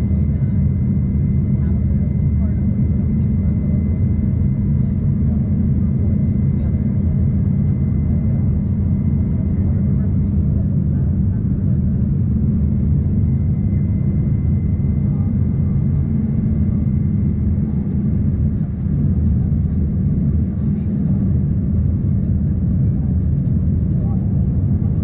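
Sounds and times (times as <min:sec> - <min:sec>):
jet cabin rumble: 0:00.0 - 0:25.0.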